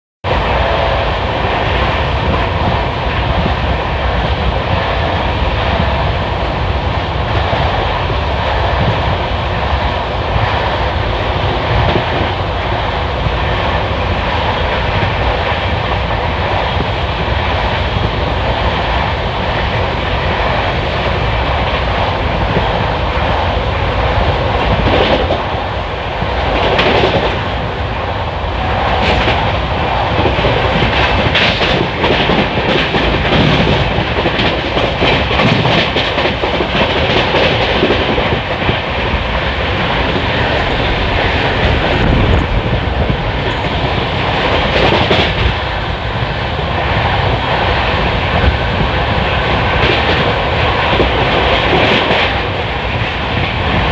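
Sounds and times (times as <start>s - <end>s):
train wheels rumbling on track: 0.2s - 53.9s.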